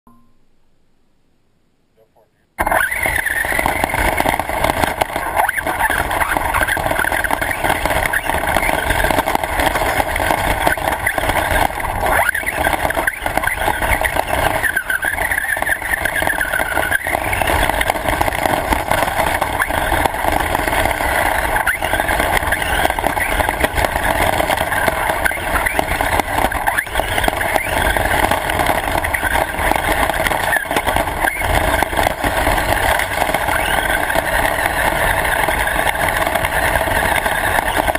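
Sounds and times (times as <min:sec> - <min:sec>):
radio-controlled car motor: 0:02.6 - 0:37.9
wheels rolling noise: 0:02.6 - 0:37.9.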